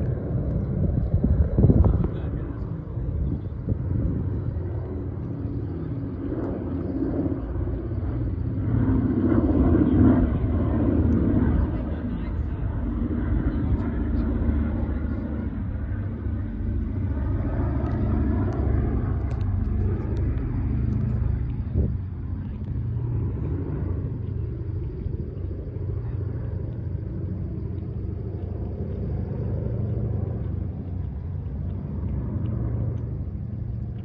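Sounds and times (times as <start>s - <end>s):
aircraft engines droning: 0.0s - 34.0s.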